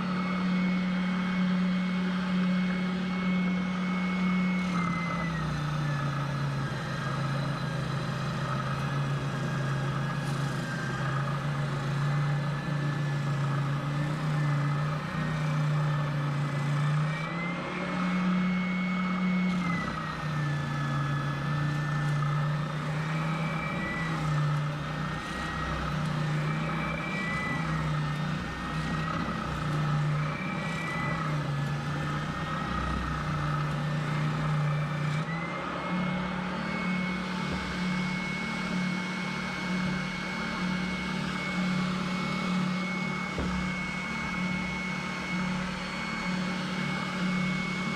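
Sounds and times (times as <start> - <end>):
router spindle and motors milling: 0.0 - 47.9.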